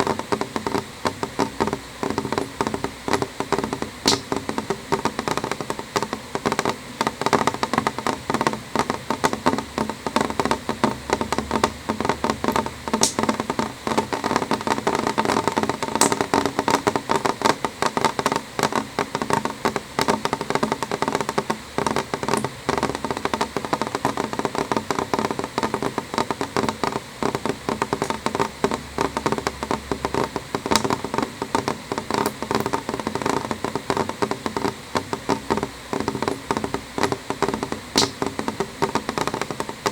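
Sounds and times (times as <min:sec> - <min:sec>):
rain tapping on window glass: 0:00.0 - 0:39.9.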